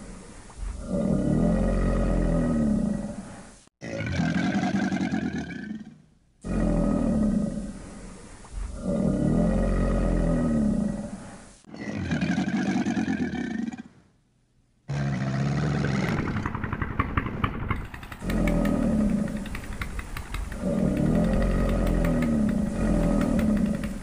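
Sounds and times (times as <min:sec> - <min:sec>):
deep growling animal roar: 0:00.0 - 0:08.0, 0:08.6 - 0:13.9, 0:14.9 - 0:24.0.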